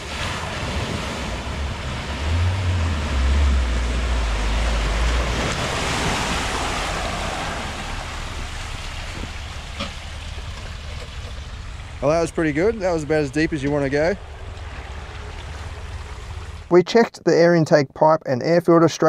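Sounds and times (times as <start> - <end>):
car engine rumble: 0.0 - 16.8
water surging and splashing: 0.0 - 16.8.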